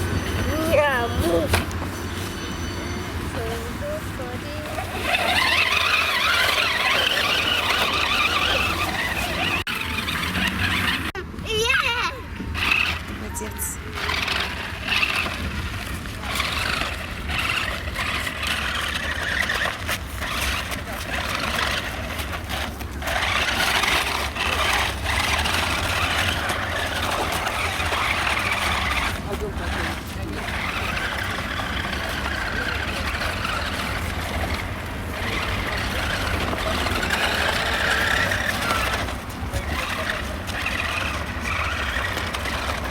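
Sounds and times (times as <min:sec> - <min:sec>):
toy truck electric motor whining: 0:00.0 - 0:42.9
tyre noise: 0:00.0 - 0:42.9.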